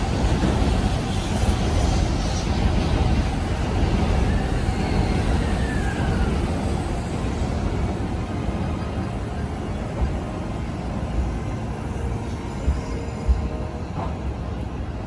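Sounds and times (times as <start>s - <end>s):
electric train running: 0.0s - 15.0s.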